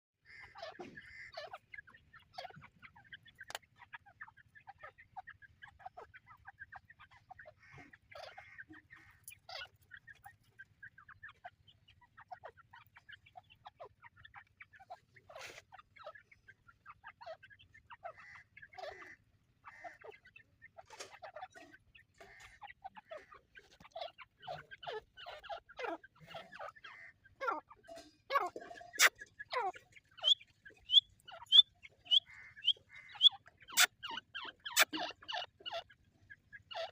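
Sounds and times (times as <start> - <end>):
birds clucking and chirping: 0.2 - 36.9.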